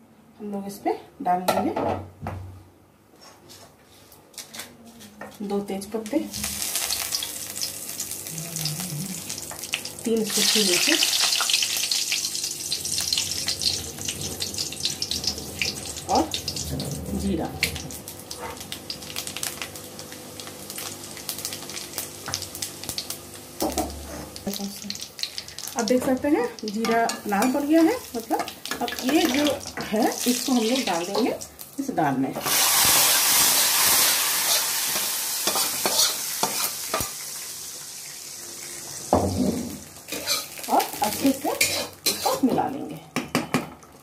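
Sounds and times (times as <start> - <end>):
spices sizzling in hot oil: 6.0 - 42.9.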